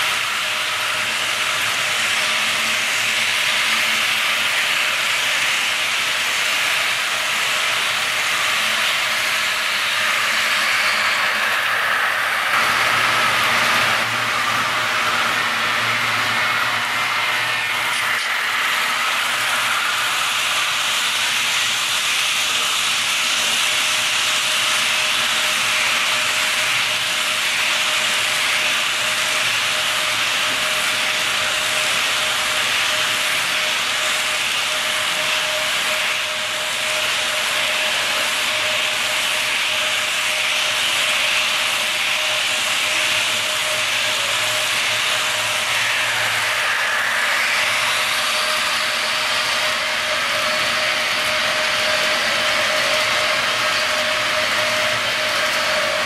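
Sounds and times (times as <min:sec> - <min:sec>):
model train wheels on rails: 0:00.0 - 0:56.0.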